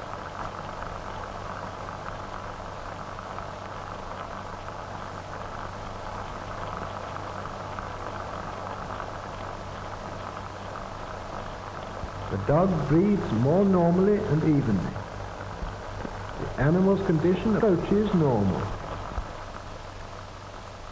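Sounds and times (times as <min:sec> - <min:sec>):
film soundtrack hiss and hum: 0:00.0 - 0:20.9.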